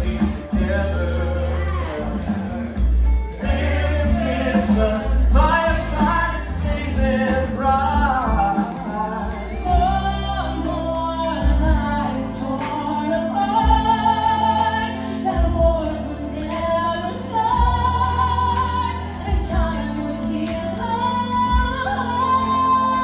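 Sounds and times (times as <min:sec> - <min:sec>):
musical accompaniment: 0:00.0 - 0:23.0
person singing into a microphone: 0:00.0 - 0:23.0.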